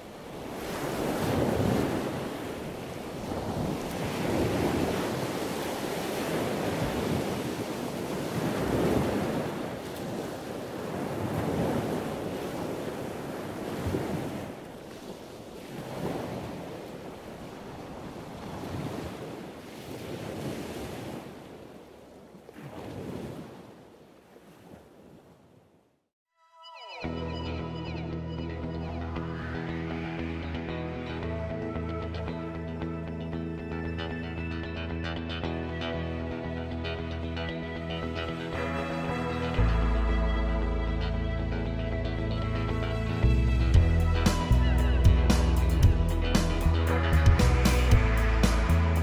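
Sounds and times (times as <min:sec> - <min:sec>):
ocean waves breaking: 0:00.0 - 0:25.8, 0:27.0 - 0:32.6, 0:35.8 - 0:49.0.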